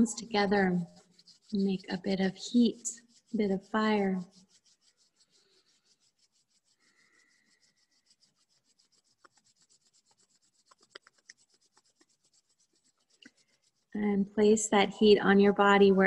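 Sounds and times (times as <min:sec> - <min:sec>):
palms rubbing together: 0:00.0 - 0:16.0.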